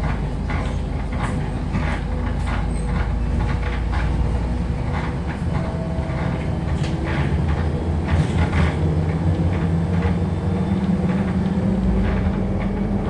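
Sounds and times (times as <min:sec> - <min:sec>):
body rattles and knocks: 0:00.0 - 0:13.0
bus interior drive rumble: 0:00.0 - 0:13.0.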